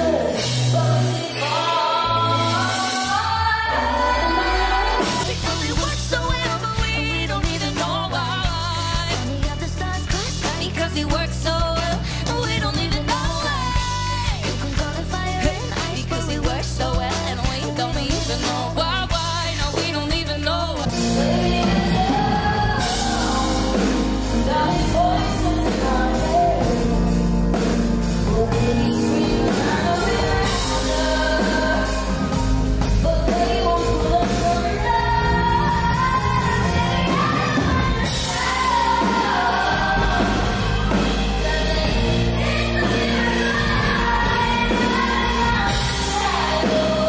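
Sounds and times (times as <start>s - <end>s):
woman singing: 0.0s - 27.6s, 28.2s - 47.0s
backing band playing: 0.0s - 47.0s.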